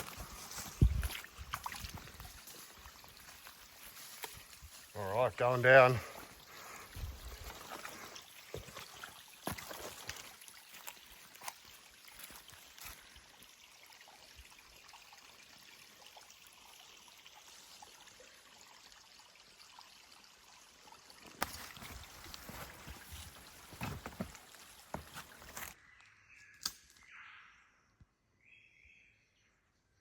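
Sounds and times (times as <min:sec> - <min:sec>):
creek water trickling: 0:00.0 - 0:25.8.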